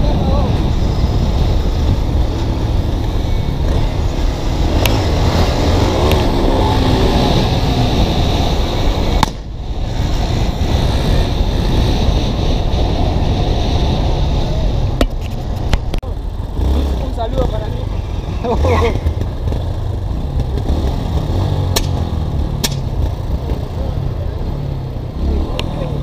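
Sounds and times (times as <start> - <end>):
wind buffeting microphone: 0.0 - 23.4
motorcycles riding: 0.0 - 26.0.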